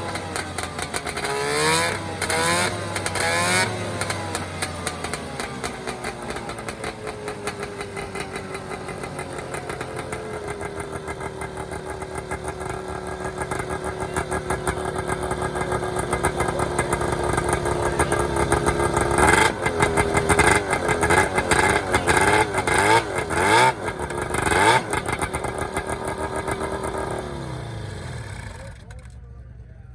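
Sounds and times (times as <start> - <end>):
snowmobile engine revving: 0.0 - 29.2.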